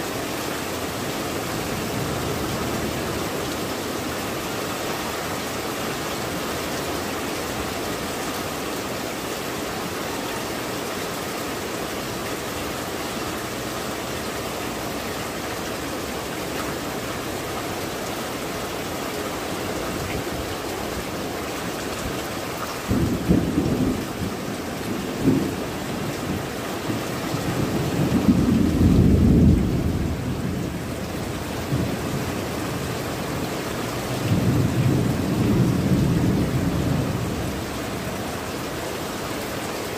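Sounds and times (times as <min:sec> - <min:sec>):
heavy rain on tiled roofs: 0:00.0 - 0:39.9.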